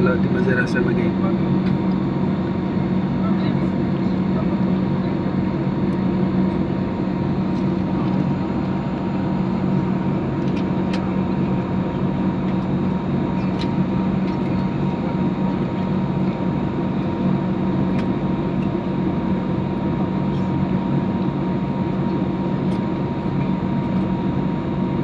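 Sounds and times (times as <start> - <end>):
jet cabin engine and air noise: 0.0 - 25.0.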